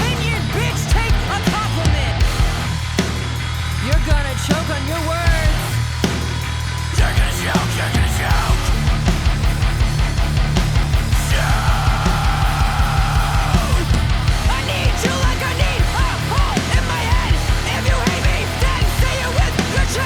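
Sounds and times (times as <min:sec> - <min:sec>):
loud rock song: 0:00.0 - 0:20.0.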